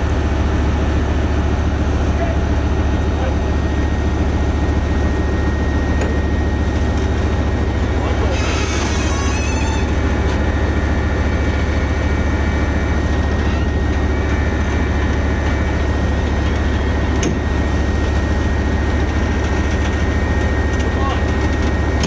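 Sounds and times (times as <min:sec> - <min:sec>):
tank diesel engine droning: 0:00.0 - 0:22.0.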